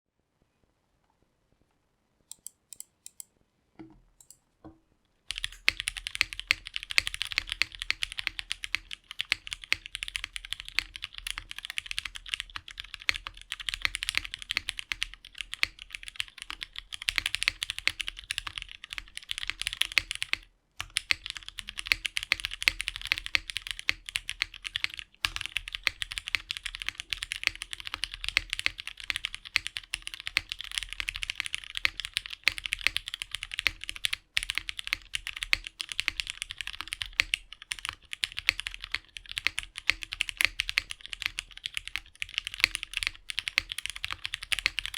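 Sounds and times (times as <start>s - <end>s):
mechanical keyboard typing: 2.3s - 3.3s, 5.3s - 44.9s.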